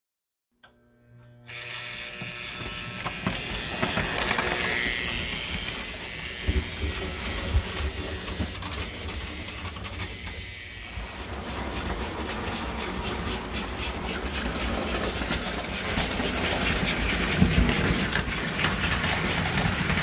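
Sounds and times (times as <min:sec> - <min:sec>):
model train wheels rattling on rails: 0:02.2 - 0:20.0.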